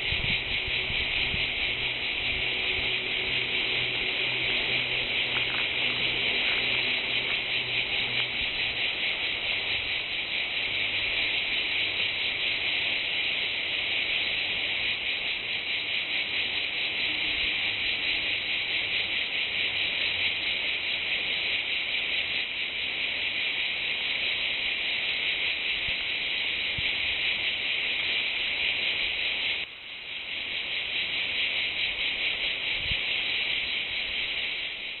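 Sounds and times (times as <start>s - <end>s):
insects buzzing in chorus: 0.0s - 35.0s.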